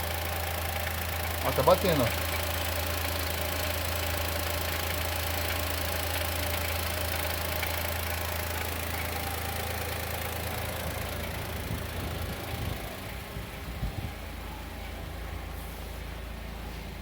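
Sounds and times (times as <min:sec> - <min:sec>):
engine knocking: 0:00.0 - 0:14.2
car engine idling: 0:00.0 - 0:17.0.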